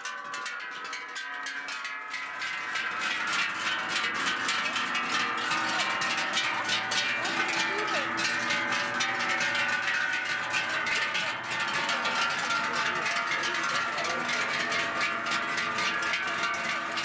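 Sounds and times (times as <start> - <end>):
cowbells clanging: 0.0 - 17.0
people's voices: 2.5 - 17.0.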